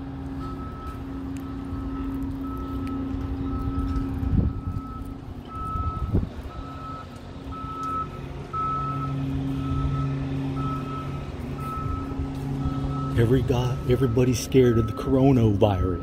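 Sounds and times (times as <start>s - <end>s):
reversing alarm beeping: 0.0s - 16.0s
vehicle engine low hum: 0.0s - 16.0s.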